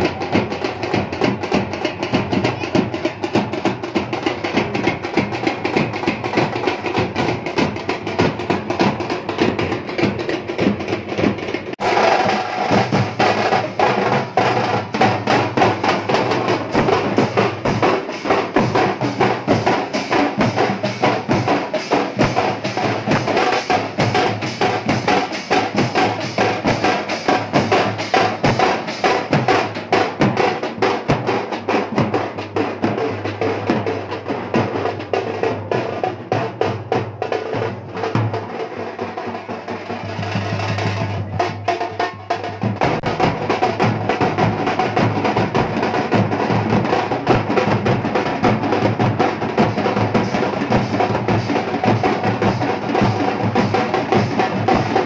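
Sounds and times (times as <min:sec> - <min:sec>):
bass drums: 0:00.0 - 0:55.0
street drum band playing fast beat: 0:00.0 - 0:55.0.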